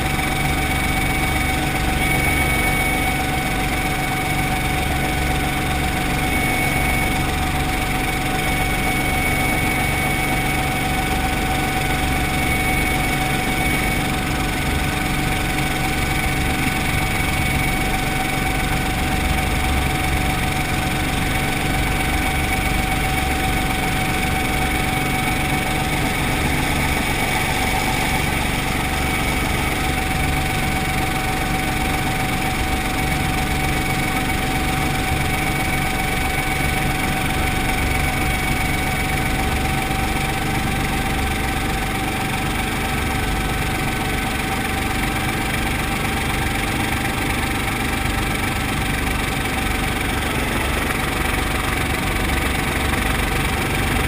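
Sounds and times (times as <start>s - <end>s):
helicopter engine and rotor drone: 0.0s - 54.0s
steady high whine: 0.0s - 54.0s.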